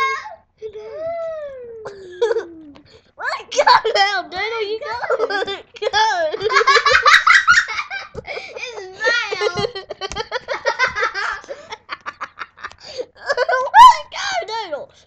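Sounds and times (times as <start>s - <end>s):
children laughing: 0.8s - 4.2s, 4.8s - 14.1s.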